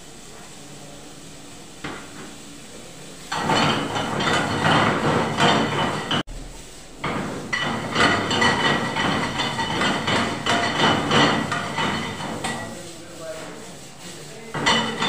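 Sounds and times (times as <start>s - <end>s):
loud sizzle: 0.0s - 15.0s.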